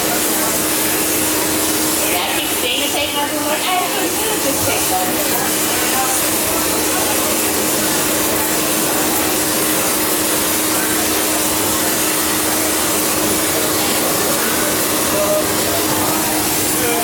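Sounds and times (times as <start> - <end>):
forge blower rushing: 0.0 - 17.0.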